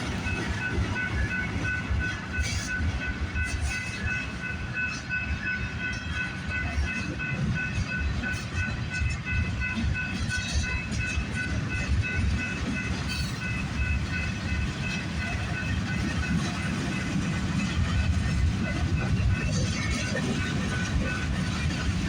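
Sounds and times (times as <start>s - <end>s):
crossing warning bell ringing: 0.0s - 22.0s
freight train rolling past: 0.0s - 22.0s
train wheel clatter: 0.0s - 22.0s.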